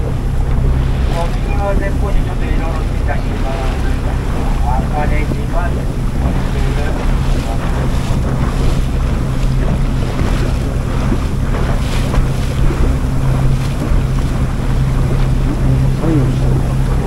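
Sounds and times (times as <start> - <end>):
boat engine humming: 0.0 - 17.0
water rushing past hull: 0.0 - 17.0
wind buffeting microphone: 0.0 - 17.0.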